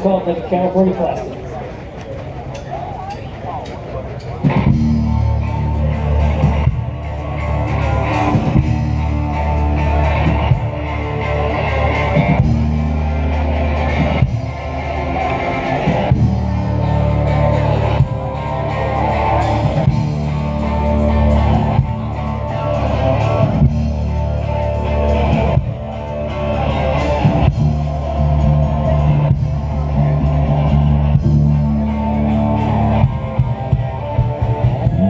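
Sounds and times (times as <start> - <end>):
bass: 0.0 - 35.0
drums: 0.0 - 35.0
electric guitar: 4.3 - 35.0.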